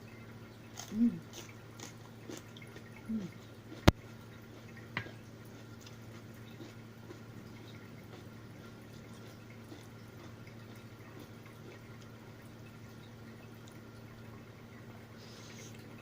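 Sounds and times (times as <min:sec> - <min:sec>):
steady low hum: 0:00.0 - 0:16.0
wet chewing and mouth sounds: 0:00.7 - 0:14.1.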